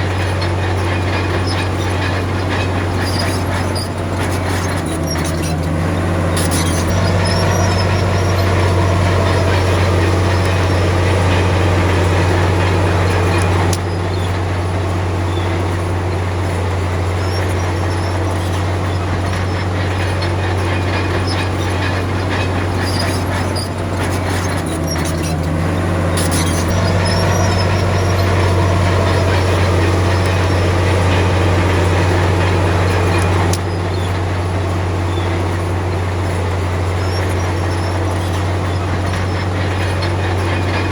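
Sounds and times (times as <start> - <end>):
bulldozer diesel engine under load: 0.0 - 40.9
metallic clanks from tracks: 0.0 - 40.9.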